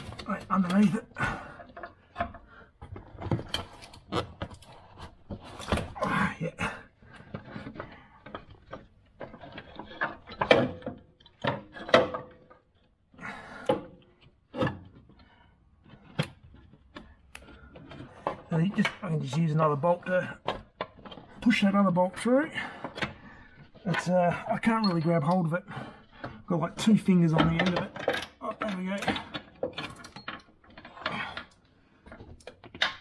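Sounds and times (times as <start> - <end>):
tools knocking and scraping metal: 0.0 - 6.0, 6.6 - 33.0.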